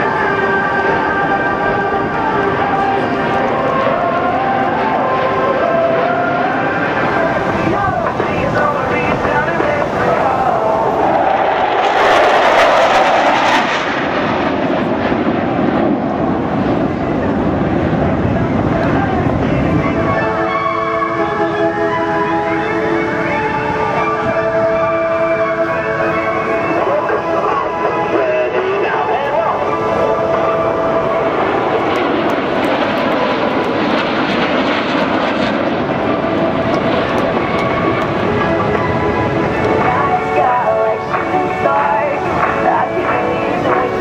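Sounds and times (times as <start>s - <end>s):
jet fighters roaring past: 0.0s - 44.0s.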